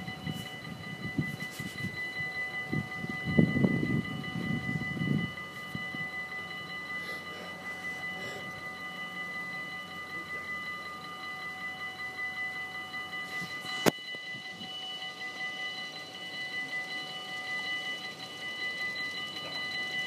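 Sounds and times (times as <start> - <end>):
level crossing bells ringing: 0.0 - 20.0.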